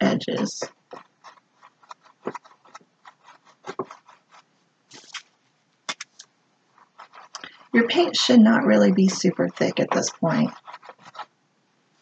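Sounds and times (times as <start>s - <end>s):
paintbrush strokes on canvas: 0.0s - 5.4s, 6.7s - 11.3s.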